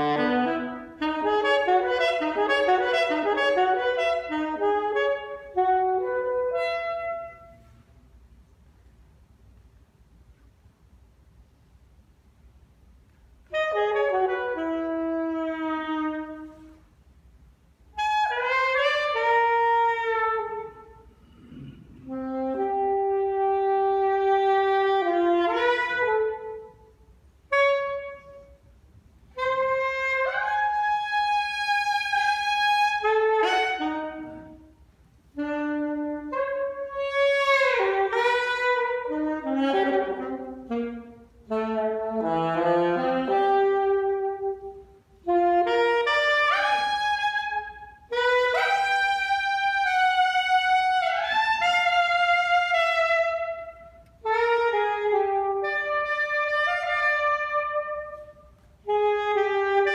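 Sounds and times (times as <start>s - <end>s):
solo saxophone blues: 0.0s - 8.6s, 13.0s - 59.9s.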